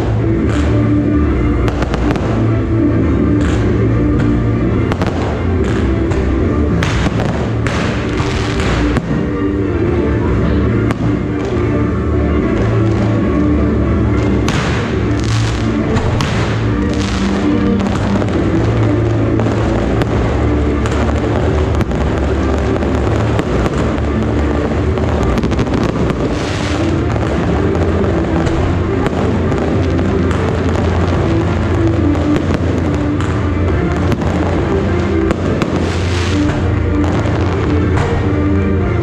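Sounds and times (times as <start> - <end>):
fireworks bursting: 0.0 - 39.0
loud music: 0.0 - 39.0.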